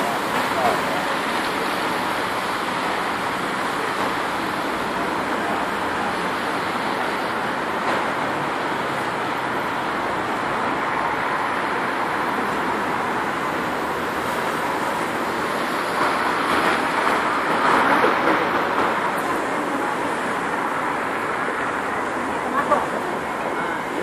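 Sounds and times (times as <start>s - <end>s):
traffic on wet street: 0.0s - 24.0s.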